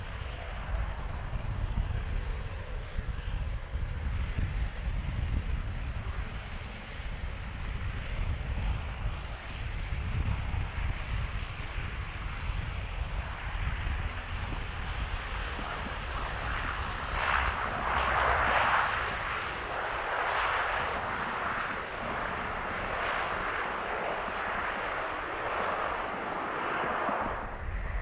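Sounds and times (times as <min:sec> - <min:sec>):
jet airliner engine roar: 0:00.0 - 0:28.0.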